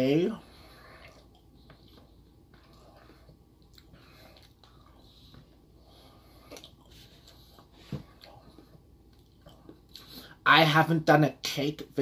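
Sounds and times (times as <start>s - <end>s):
person chewing cake: 0.6s - 10.2s.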